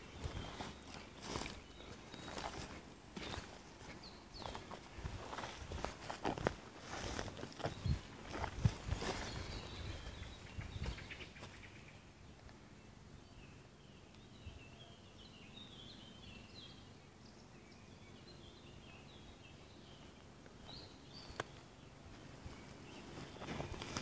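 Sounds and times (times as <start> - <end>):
quiet forest background: 0.0 - 24.0
songbird chirping: 0.0 - 24.0.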